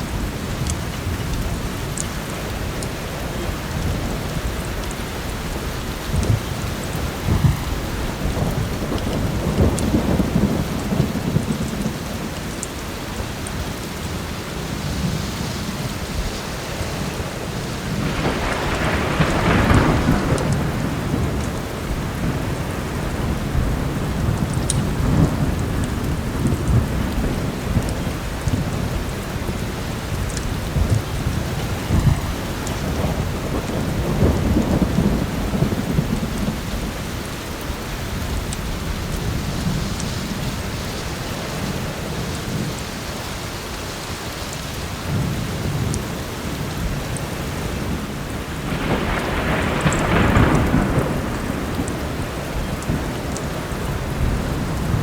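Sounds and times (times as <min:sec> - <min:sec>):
thunder rumbling: 0:00.0 - 0:43.2, 0:44.9 - 0:55.0
heavy rain: 0:00.0 - 0:55.0.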